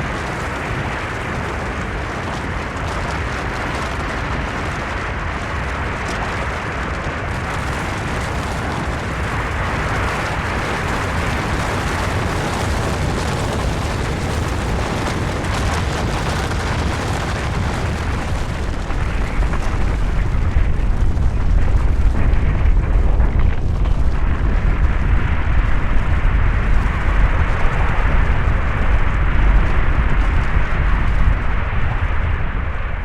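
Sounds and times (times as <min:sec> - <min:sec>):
deep rumble: 0:00.0 - 0:33.0
rushing snow sliding: 0:00.0 - 0:33.0.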